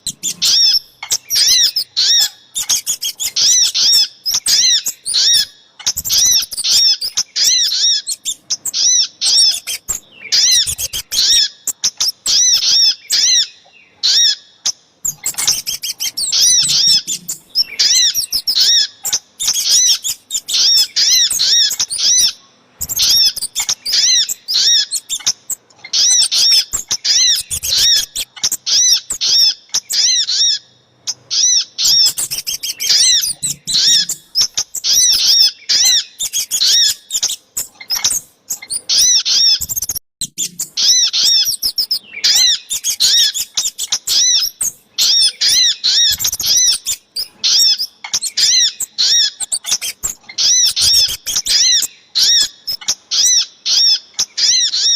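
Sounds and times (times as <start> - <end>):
sharp high bird chipping calls: 0.0 - 54.9.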